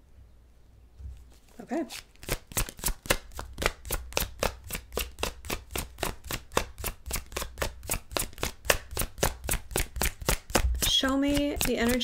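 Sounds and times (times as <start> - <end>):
cards being shuffled: 1.1 - 12.0.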